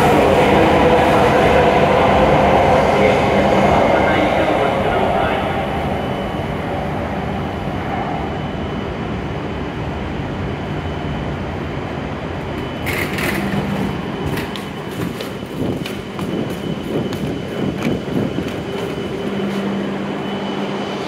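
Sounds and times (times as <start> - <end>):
train humming: 0.0 - 21.0.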